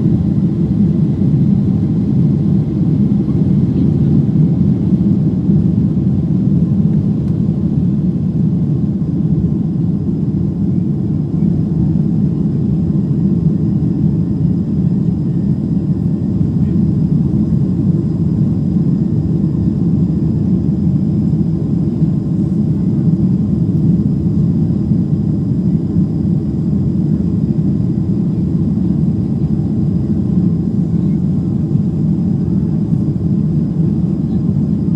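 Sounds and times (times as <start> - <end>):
jet engines and cabin airflow rumble: 0.0 - 34.9.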